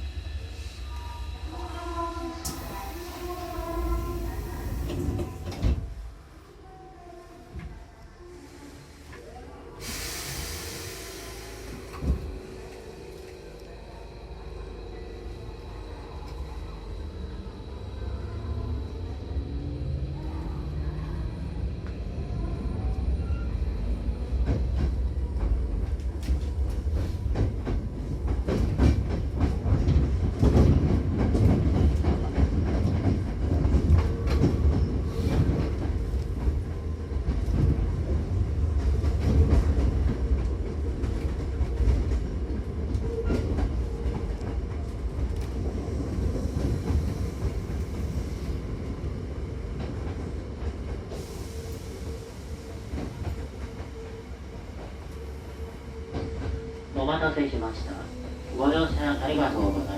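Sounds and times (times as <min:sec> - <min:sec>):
train running gear rumble: 0:00.0 - 0:06.3, 0:08.8 - 0:59.9.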